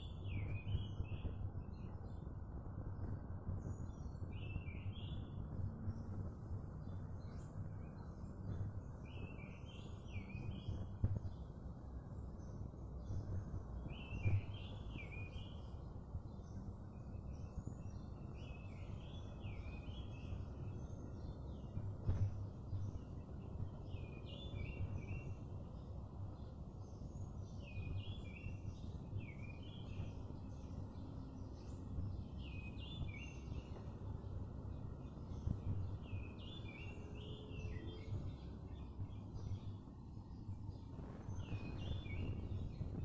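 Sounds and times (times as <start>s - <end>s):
low background rumble: 0.0s - 43.0s
small birds chirping: 0.0s - 43.0s.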